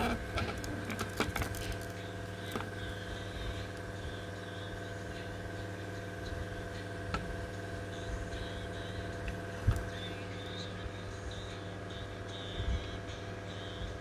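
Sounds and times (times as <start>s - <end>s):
cassette recorder motor humming: 0.0s - 14.0s.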